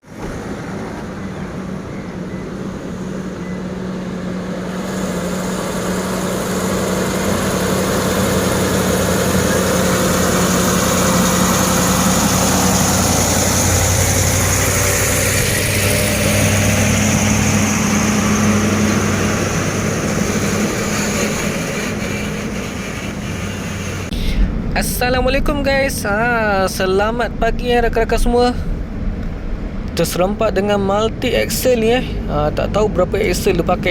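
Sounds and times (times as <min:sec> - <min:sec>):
heavy truck engine running: 0:00.0 - 0:33.9
road noise: 0:00.0 - 0:33.9.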